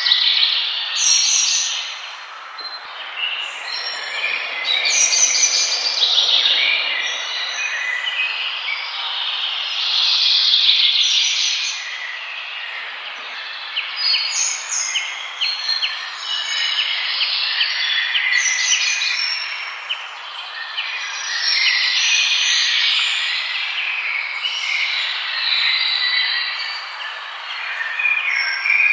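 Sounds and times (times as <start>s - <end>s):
birds singing and chirping: 0.0s - 28.9s.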